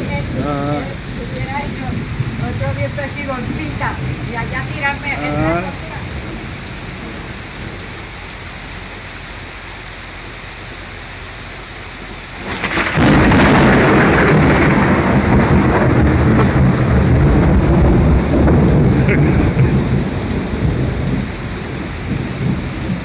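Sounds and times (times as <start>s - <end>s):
thunder rumbling: 0.0s - 9.1s, 12.3s - 23.0s
steady rain: 0.0s - 23.0s.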